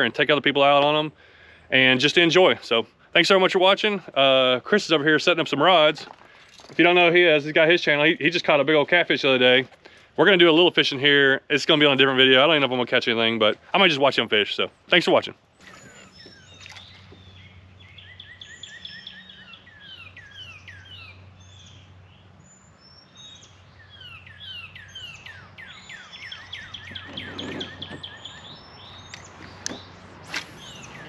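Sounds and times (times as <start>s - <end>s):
songbirds chirping and singing: 0.0s - 31.0s.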